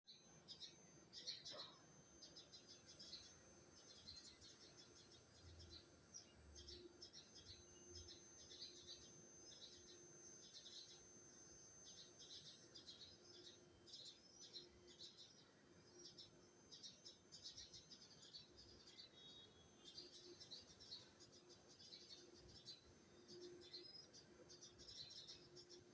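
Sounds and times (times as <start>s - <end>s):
small bird chirping: 0.1s - 25.9s.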